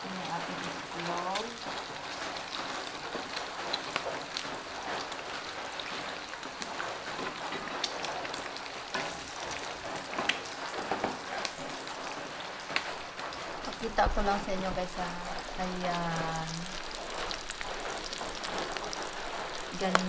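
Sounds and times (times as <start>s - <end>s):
eggs frying in hot oil: 0.0s - 20.0s.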